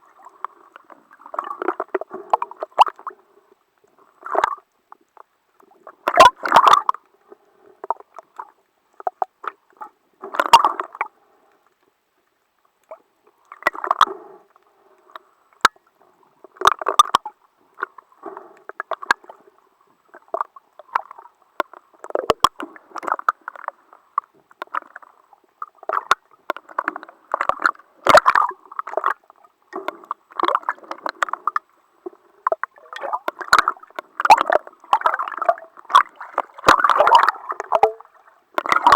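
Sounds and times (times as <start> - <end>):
water gurgling and sloshing: 0.0 - 38.9.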